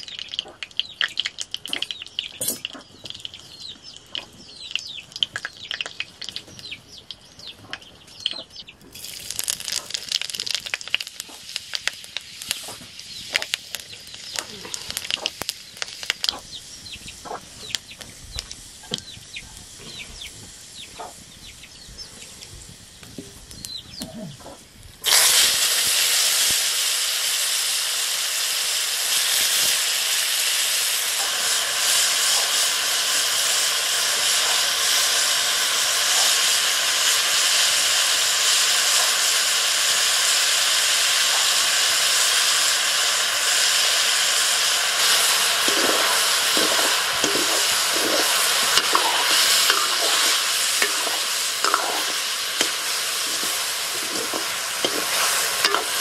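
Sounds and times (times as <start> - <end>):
hot oil crackling: 0.0 - 56.0
mushrooms sizzling in oil: 0.0 - 56.0.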